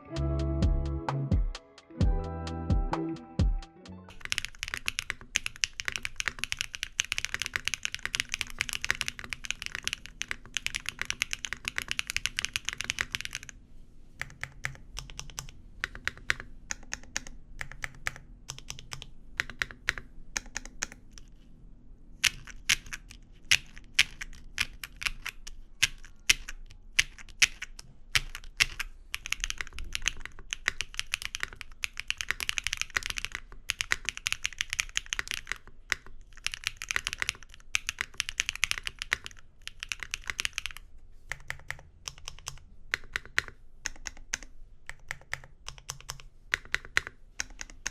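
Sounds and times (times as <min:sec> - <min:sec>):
typing on mechanical keyboard: 0:04.1 - 0:13.6, 0:14.2 - 0:21.4, 0:22.2 - 0:47.9.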